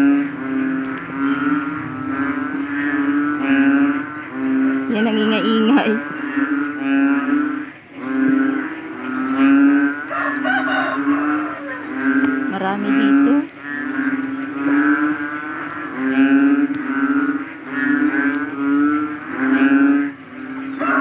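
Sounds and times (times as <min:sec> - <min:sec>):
frog calling: 0:00.0 - 0:21.0.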